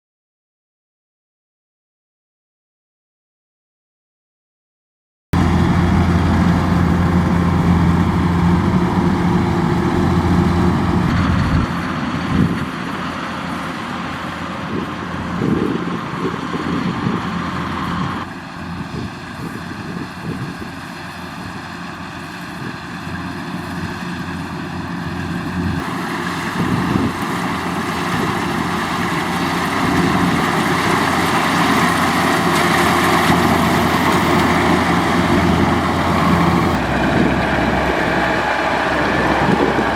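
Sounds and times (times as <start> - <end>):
combine harvester diesel engine: 5.4 - 39.9.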